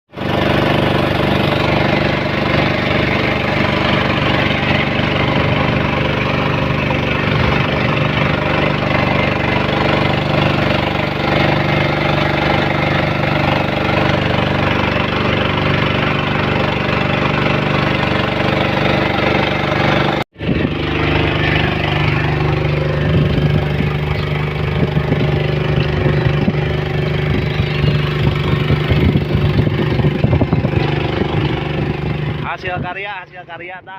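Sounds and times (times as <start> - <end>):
engine running: 0.1 - 33.9.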